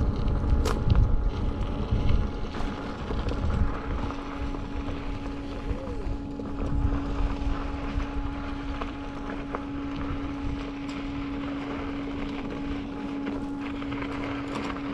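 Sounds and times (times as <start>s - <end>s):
electric motor whining: 0.0s - 14.9s
wind rumble on microphone: 0.0s - 14.9s.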